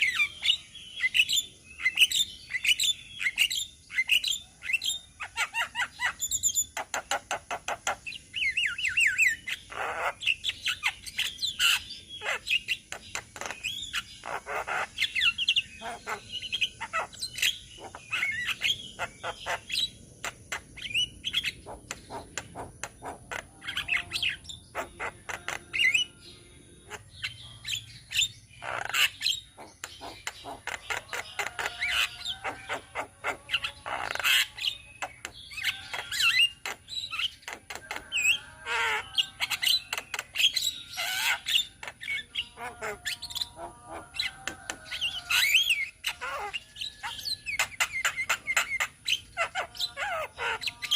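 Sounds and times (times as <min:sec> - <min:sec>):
birds chattering and squawking: 0:00.0 - 0:50.9.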